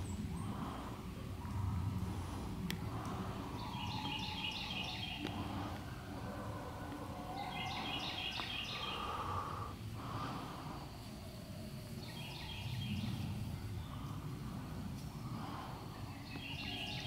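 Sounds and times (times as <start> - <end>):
low outdoor rumble: 0.0 - 16.8.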